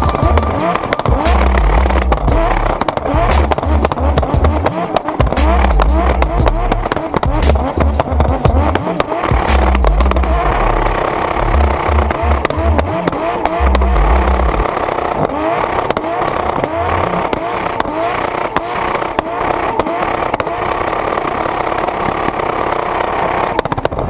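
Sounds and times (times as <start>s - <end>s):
bass-heavy electronic music: 0.0s - 23.6s
car engine revving hard: 0.0s - 24.0s.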